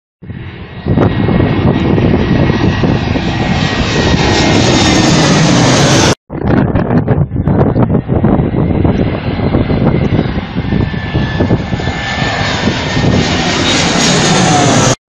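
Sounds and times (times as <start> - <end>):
jet airliner passing overhead: 0.2 - 15.0.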